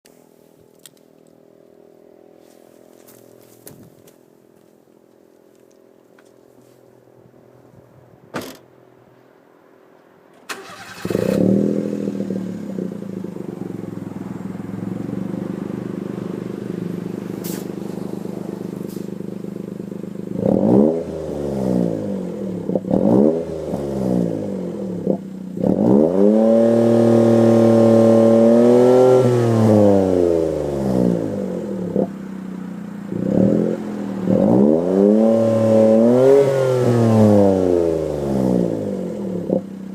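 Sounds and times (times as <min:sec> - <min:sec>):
car engine idling and revving: 0:00.2 - 0:39.9.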